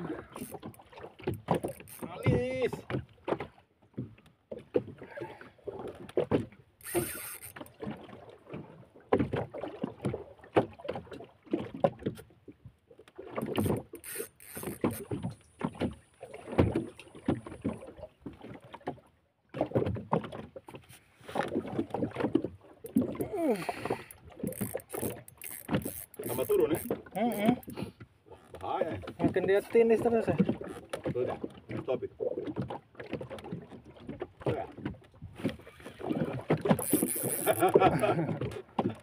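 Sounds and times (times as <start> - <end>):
boat knocking and rustling: 0.0 - 39.0.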